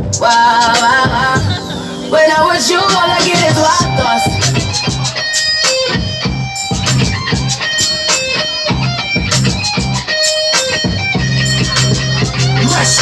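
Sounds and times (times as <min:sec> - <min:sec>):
drum beat and bass: 0:00.0 - 0:13.0
plucked electric guitar riff: 0:00.0 - 0:13.0.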